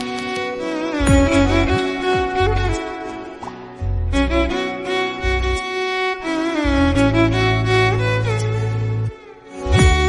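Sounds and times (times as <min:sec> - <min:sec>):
bowed string melody: 0:00.0 - 0:10.0.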